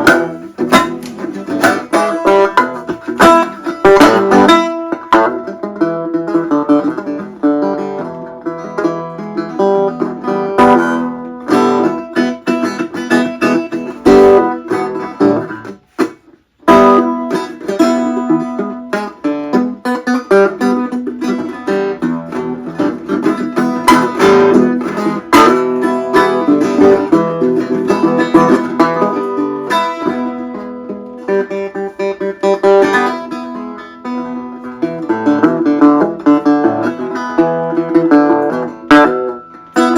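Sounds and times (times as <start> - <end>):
resonator guitar plucked notes: 0.0 - 39.9.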